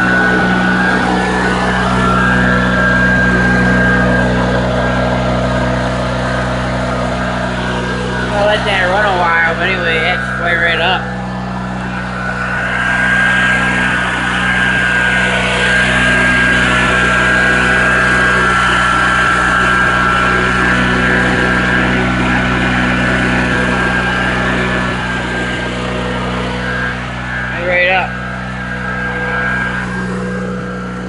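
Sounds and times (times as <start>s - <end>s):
generator running: 0.0s - 31.0s.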